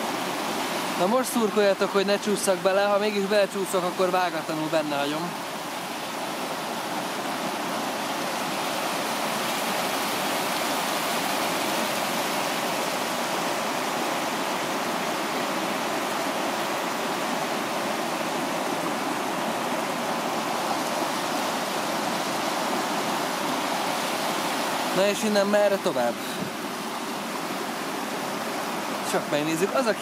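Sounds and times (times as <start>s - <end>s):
river rushing over rapids: 0.0s - 30.0s.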